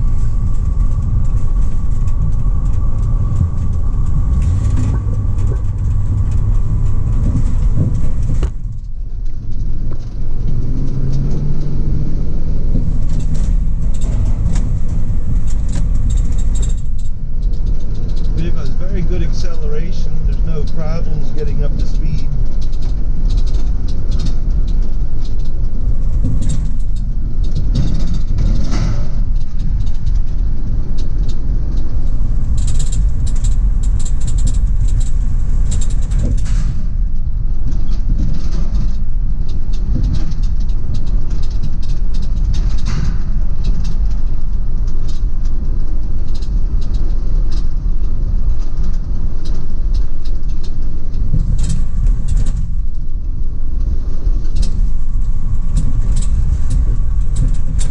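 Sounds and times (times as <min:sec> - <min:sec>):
van engine and road noise: 0:00.0 - 0:57.9.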